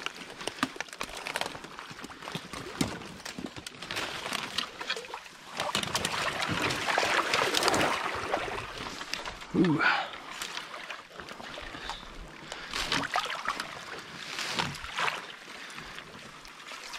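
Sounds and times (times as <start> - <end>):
twigs cracking: 0.0 - 9.5, 10.2 - 15.2
person wading through water: 0.0 - 16.9.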